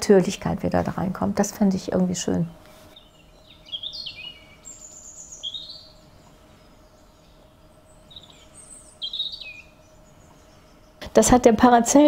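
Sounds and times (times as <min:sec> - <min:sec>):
faint steady hum: 0:00.0 - 0:12.0
songbirds singing: 0:00.1 - 0:12.0.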